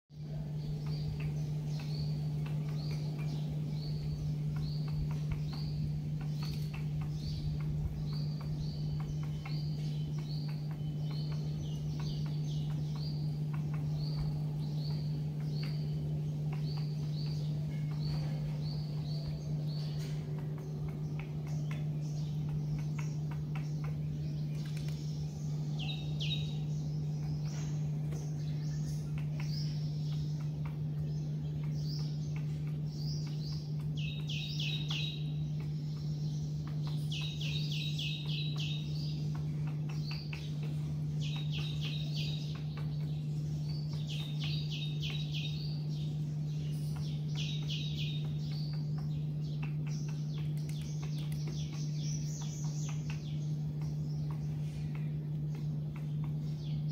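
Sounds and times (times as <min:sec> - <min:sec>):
small birds chirping: 0:00.1 - 0:56.9
steady low hum: 0:00.1 - 0:56.9
rapid bird trill: 0:00.6 - 0:56.9.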